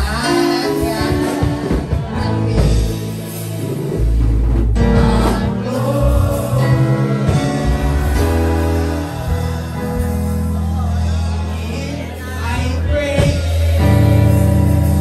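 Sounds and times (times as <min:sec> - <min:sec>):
amplified instrumental backing: 0:00.0 - 0:15.0
congregation singing a hymn: 0:00.0 - 0:15.0.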